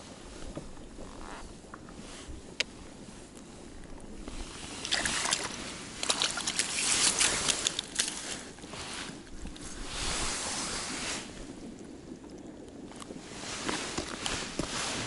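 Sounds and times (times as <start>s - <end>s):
rustling and scraping on ice: 0.0s - 12.2s, 12.8s - 15.0s.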